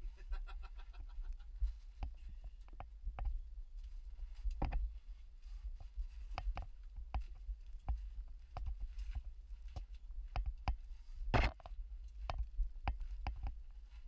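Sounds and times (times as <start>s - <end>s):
camera housing low rumble: 0.0s - 14.0s.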